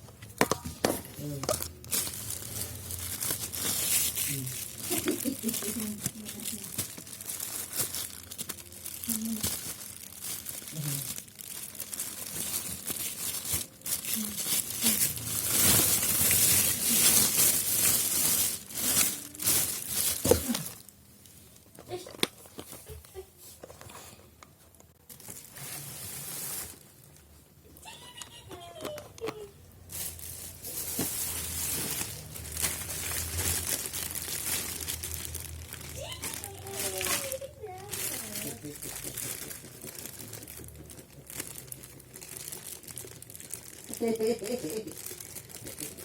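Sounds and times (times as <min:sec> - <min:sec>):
packaging crinkling and rustling: 0:00.0 - 0:24.0, 0:24.7 - 0:27.4, 0:28.0 - 0:46.0.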